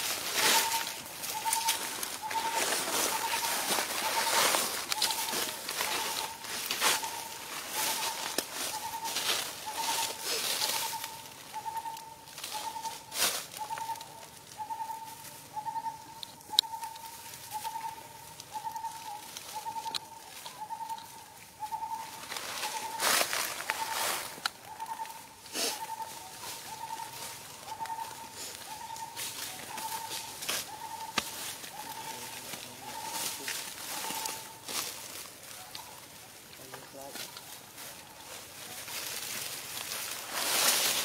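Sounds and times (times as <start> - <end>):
dry leaves rustling: 0.0 - 41.0.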